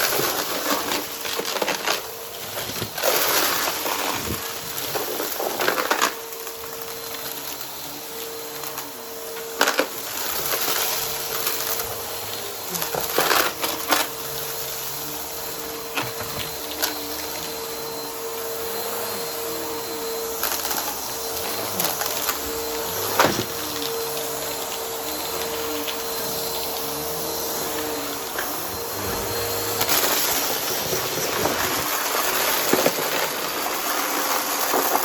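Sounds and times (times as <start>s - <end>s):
debris crunching in vacuum: 0.0s - 35.0s
vacuum cleaner motor whine: 0.0s - 35.0s.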